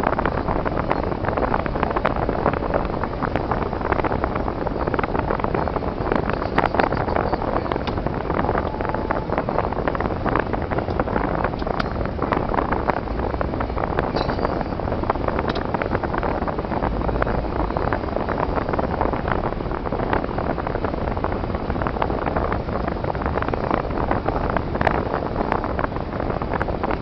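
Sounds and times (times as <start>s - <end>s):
car engine and tyre noise: 0.0s - 27.0s.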